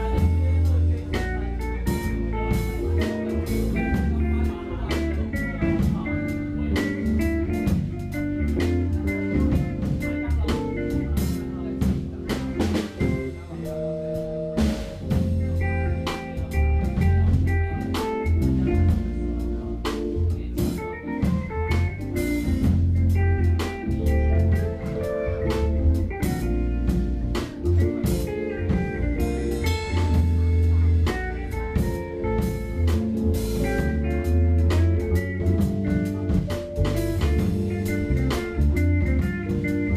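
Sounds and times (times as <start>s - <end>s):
deep electric bass notes: 0.0s - 39.9s
jazz fusion band playing: 0.0s - 39.9s.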